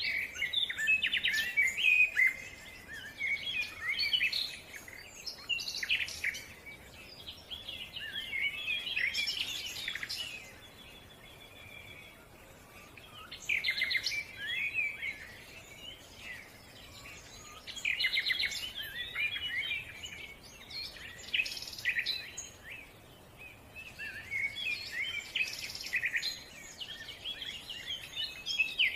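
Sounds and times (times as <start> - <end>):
songbird twittering: 0.0 - 28.9.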